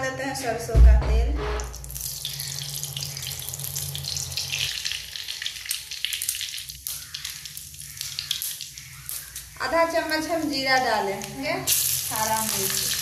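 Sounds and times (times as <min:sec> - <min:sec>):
spices sizzling in hot oil: 0:01.7 - 0:13.0.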